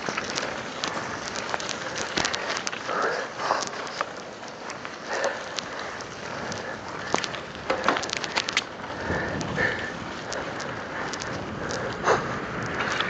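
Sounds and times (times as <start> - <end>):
bike clicks and rattles: 0.0 - 13.0
bike tyres hissing on wet road: 0.0 - 13.0.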